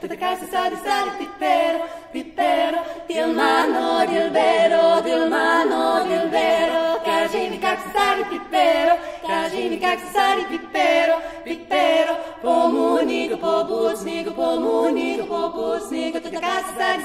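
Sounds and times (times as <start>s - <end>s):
women singing in harmony: 0.0s - 17.0s.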